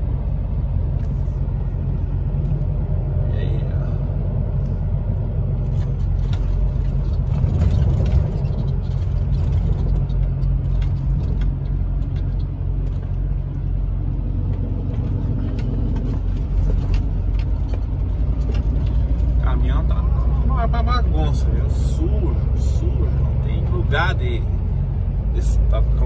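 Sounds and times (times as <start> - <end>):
truck diesel engine running: 0.0 - 26.0
tyre and road noise: 0.0 - 26.0.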